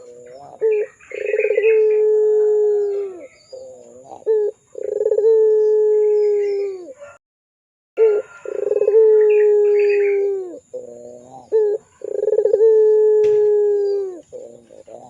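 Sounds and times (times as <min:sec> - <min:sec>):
dove cooing: 0:00.0 - 0:07.2, 0:08.0 - 0:15.0.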